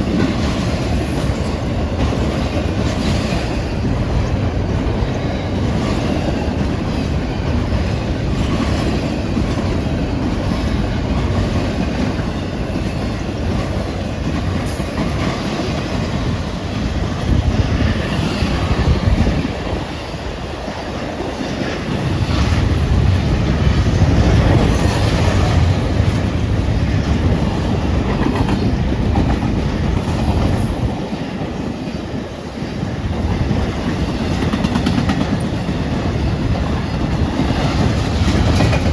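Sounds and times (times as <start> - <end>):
freight train rumbling past: 0.0 - 38.9
wheels clacking over rail joints: 0.0 - 38.9.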